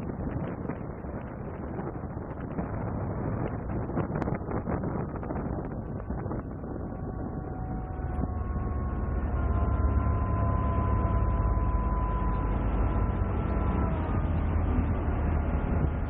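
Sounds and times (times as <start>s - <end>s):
boat engines droning: 0.0s - 16.0s
steady whining tones: 0.0s - 16.0s.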